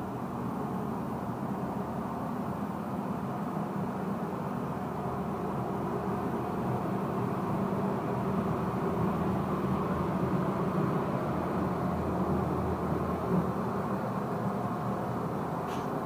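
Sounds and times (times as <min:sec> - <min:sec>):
tram equipment droning: 0:00.0 - 0:16.0.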